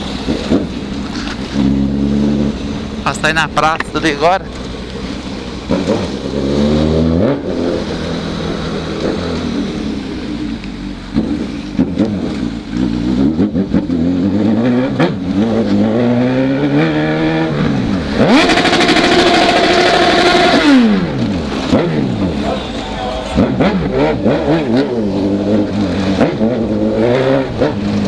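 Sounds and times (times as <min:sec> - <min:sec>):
motorcycle engine revving hard: 0:00.0 - 0:04.4, 0:05.2 - 0:28.0.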